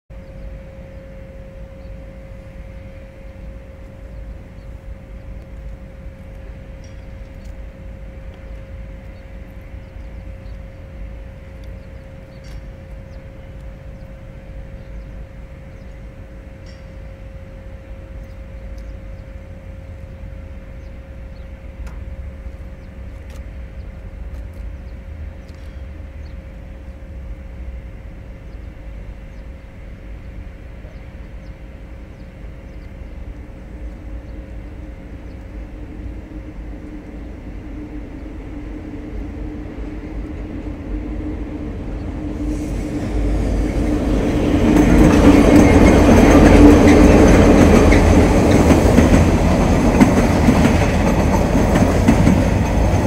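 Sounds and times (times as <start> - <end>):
locomotive drone: 0.1 - 53.0
low engine rumble: 0.1 - 53.0
steady hum: 0.1 - 53.0.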